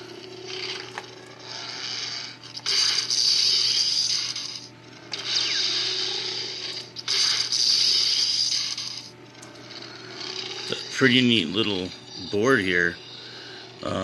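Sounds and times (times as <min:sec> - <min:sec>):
lightsaber toy hum: 0:00.0 - 0:14.0.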